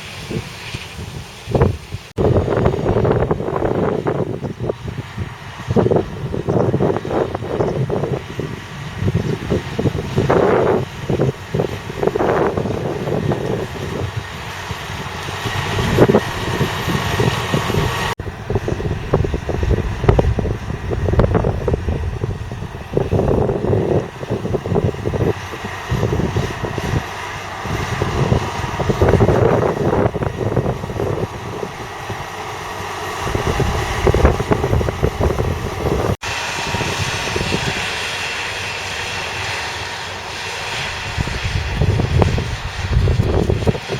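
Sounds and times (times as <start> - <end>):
wind buffeting microphone: 0.0 - 43.9
diesel tractor engine running: 2.2 - 43.9.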